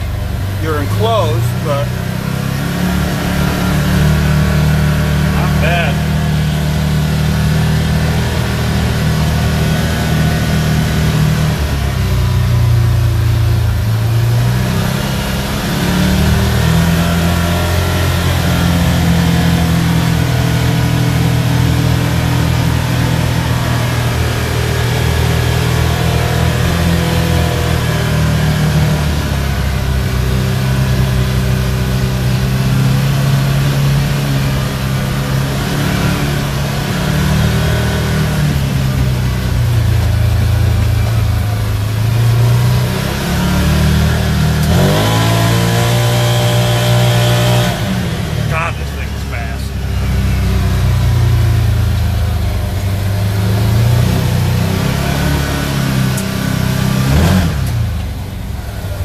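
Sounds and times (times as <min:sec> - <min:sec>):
vehicle engine running from inside cab: 0:00.0 - 0:59.0.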